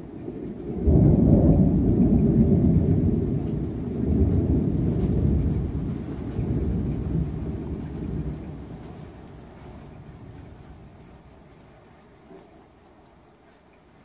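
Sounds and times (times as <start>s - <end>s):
thunder rumbling: 0.0s - 11.7s
rain: 0.0s - 14.0s.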